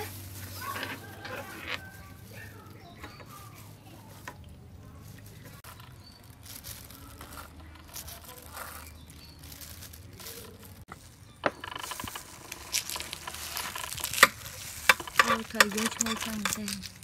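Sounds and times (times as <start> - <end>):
soft handling rustles: 0.0 - 17.0.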